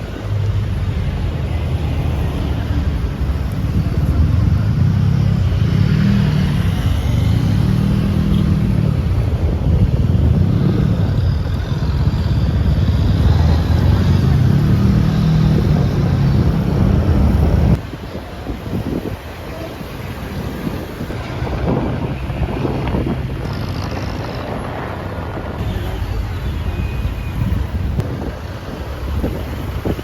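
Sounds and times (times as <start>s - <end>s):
wind buffeting microphone: 2.8s - 25.7s, 27.0s - 30.0s.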